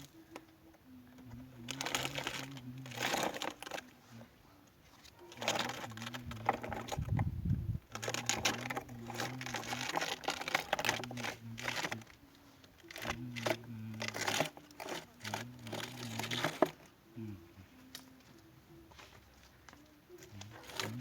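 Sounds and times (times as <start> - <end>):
crinkling and clattering handling: 0.0 - 17.0, 17.8 - 21.0
low steady hum: 0.0 - 21.0.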